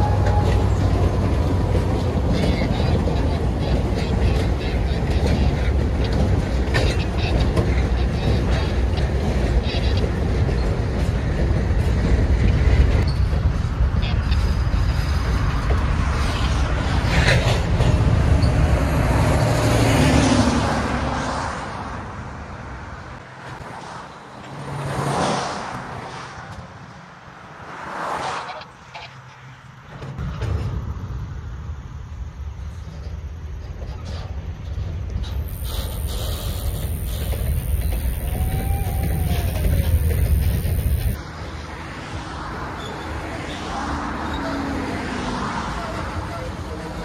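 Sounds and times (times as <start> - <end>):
diesel locomotives rumbling: 0.0 - 24.9, 32.5 - 47.0.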